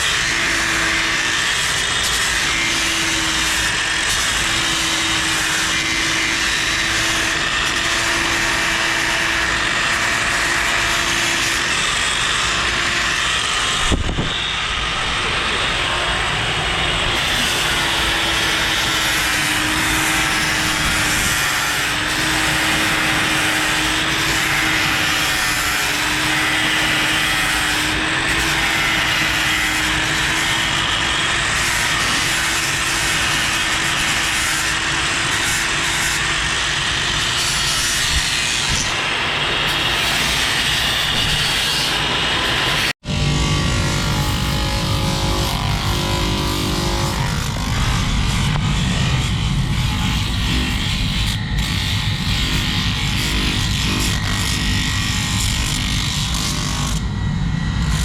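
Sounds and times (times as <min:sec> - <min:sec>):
power tool grinding: 0:00.0 - 0:57.2.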